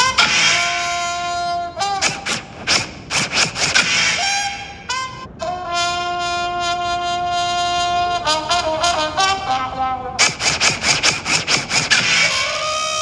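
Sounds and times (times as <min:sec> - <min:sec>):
brass horns music: 0:00.0 - 0:13.0.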